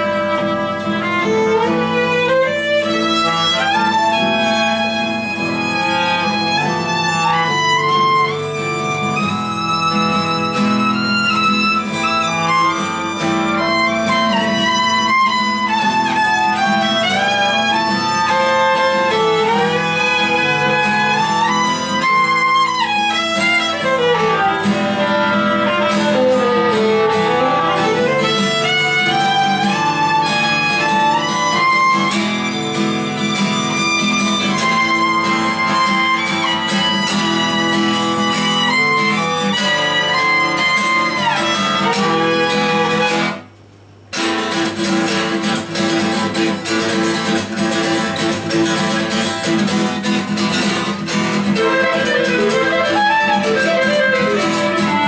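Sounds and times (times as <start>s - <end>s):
violin: 0.0s - 43.5s, 44.8s - 55.0s
clarinet: 0.0s - 43.6s, 45.9s - 55.0s
strummed acoustic guitar: 0.0s - 55.0s.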